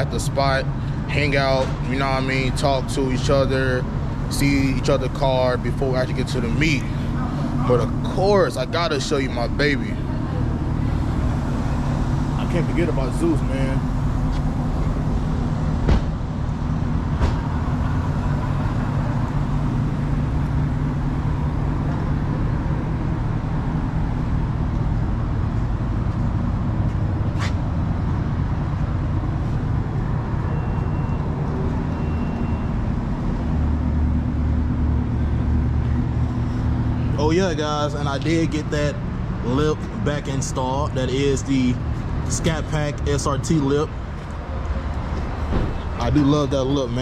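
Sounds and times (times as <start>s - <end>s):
car engines idling: 0.0s - 47.0s.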